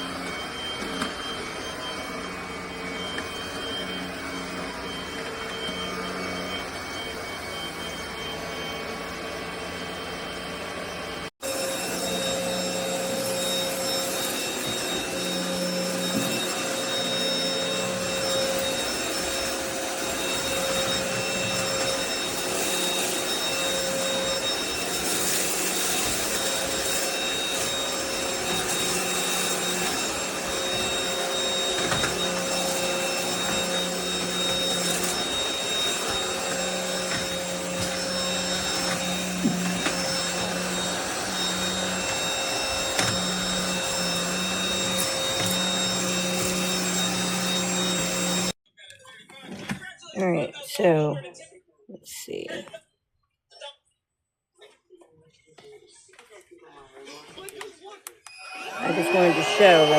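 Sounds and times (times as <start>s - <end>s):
stick vacuum motor whine: 0.0s - 48.6s, 57.4s - 59.9s.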